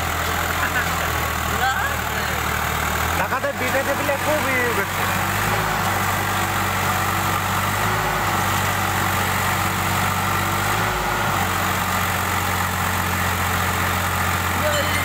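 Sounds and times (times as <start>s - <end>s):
diesel tractor engines straining: 0.0s - 15.0s.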